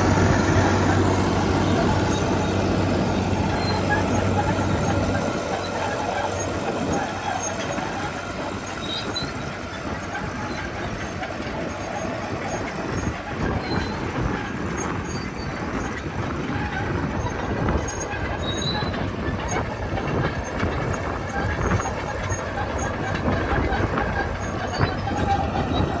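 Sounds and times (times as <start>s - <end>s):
diesel engine running: 0.0s - 26.0s
faint track squeaks: 0.0s - 26.0s
steel tracks clanking: 0.0s - 26.0s.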